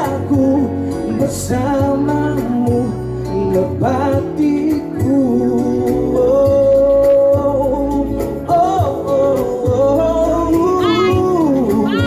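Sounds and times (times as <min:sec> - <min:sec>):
live band music: 0:00.0 - 0:12.0
man singing wordless notes: 0:00.0 - 0:12.0.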